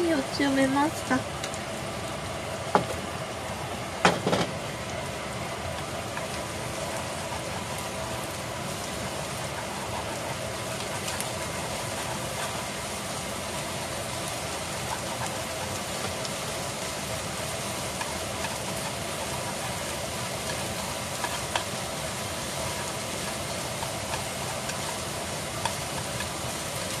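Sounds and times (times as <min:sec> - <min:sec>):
egg sizzling in a frying pan: 0:00.0 - 0:27.0.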